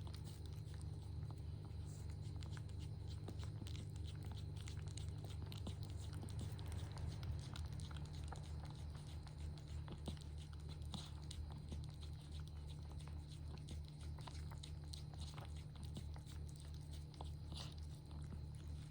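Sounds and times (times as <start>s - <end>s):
cat chewing and licking: 0.0s - 18.9s.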